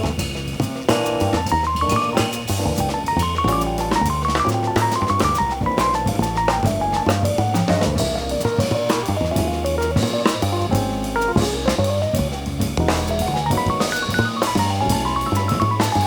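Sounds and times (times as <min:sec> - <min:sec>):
bass line: 0:00.0 - 0:16.0
drum kit with cymbals: 0:00.0 - 0:16.0.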